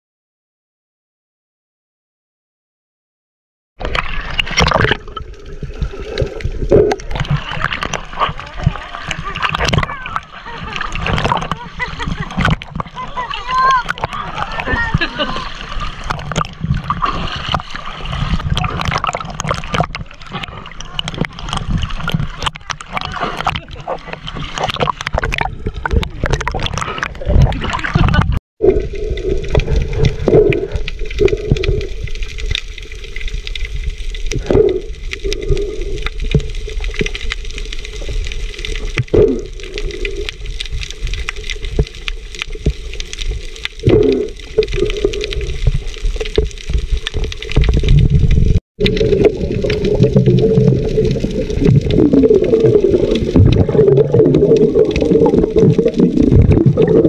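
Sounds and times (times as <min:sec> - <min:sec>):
muffled underwater slosh and rumble: 0:03.8 - 0:57.0
water splashing: 0:03.8 - 0:57.0.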